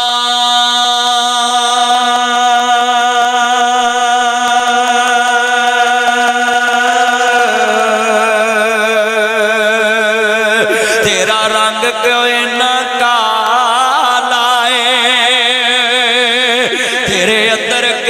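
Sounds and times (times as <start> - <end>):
man chanting a held note: 0.0 - 18.0.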